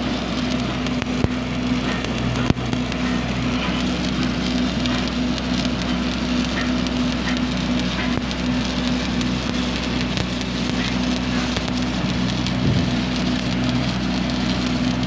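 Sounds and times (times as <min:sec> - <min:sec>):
low machine hum: 0:00.0 - 0:15.0
welding arc crackling and sizzling: 0:00.0 - 0:15.0.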